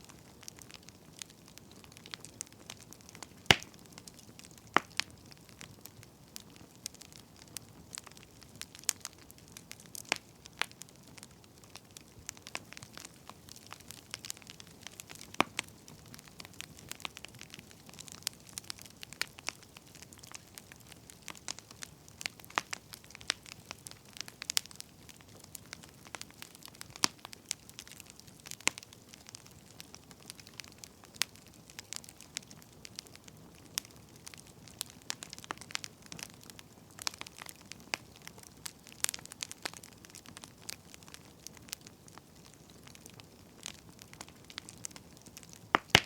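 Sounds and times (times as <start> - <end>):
firewood crackling and popping: 0.0 - 46.0.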